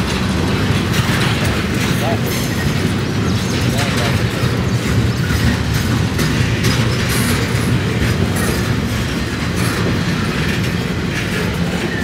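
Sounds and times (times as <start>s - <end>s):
railroad cars rolling on track: 0.0s - 12.0s.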